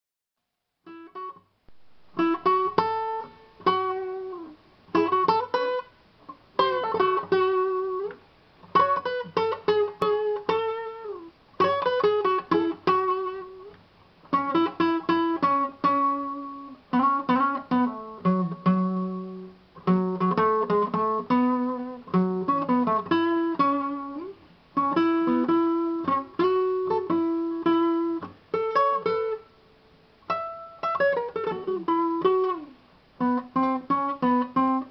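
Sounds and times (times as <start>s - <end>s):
acoustic guitar plucked notes: 0.9s - 29.5s, 30.2s - 34.9s.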